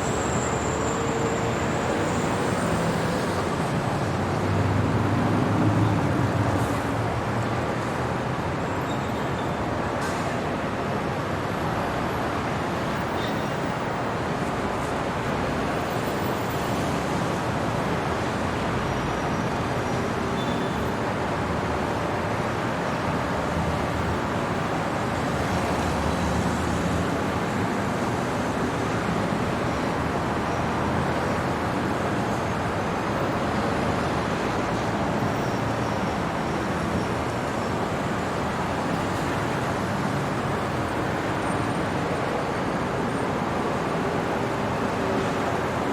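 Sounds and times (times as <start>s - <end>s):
road vehicles passing: 0.0s - 45.9s.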